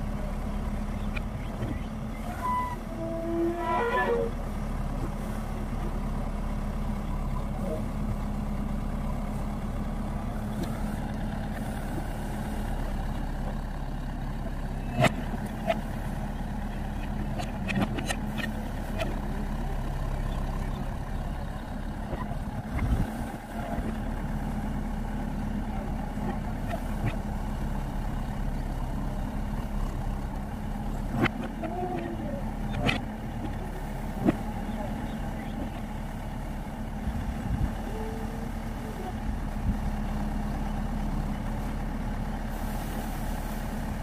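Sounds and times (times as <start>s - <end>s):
backhoe digging soil: 0.0s - 44.0s
diesel engine running: 0.0s - 44.0s.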